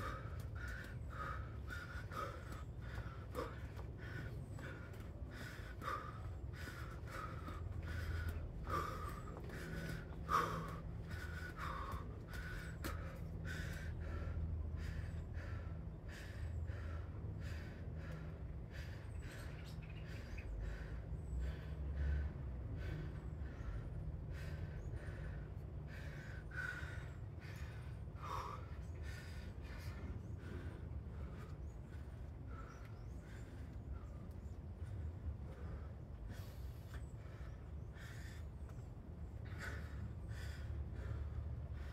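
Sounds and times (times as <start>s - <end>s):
person breathing hard: 0.0s - 41.9s.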